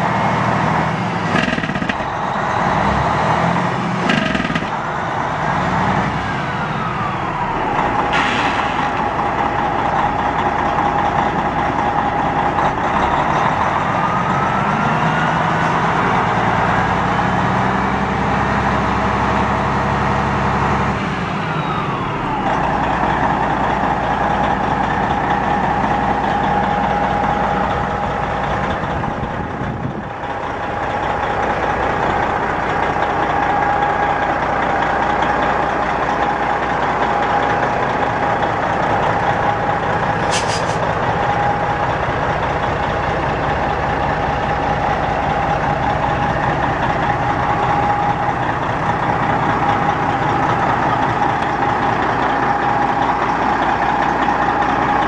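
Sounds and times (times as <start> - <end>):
diesel truck engine revving: 0.0 - 55.0
engine whine: 0.0 - 55.0.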